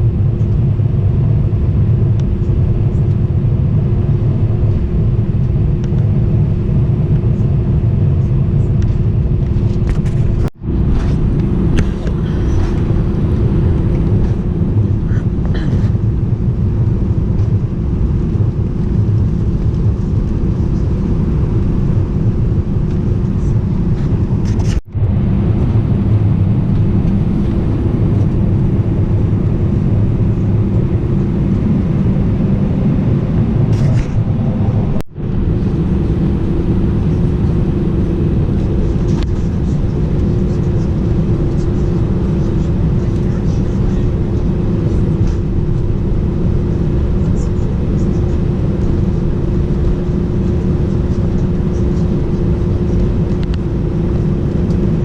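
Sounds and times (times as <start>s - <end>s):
airplane cabin engine rumble: 0.0s - 55.0s
steady hum: 0.0s - 55.0s.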